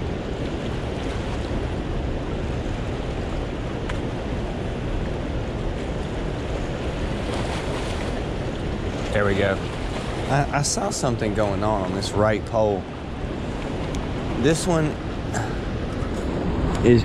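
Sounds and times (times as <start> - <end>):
choppy river water rushing: 0.0 - 17.0
wind on microphone: 0.0 - 17.0.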